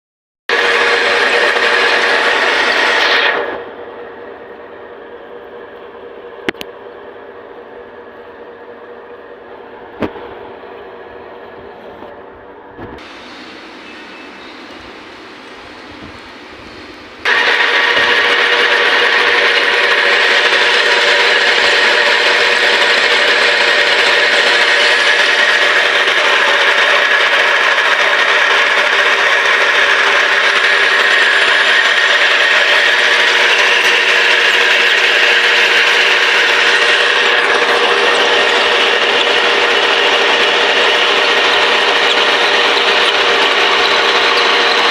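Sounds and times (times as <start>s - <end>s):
metal lathe machining: 0.5s - 44.9s.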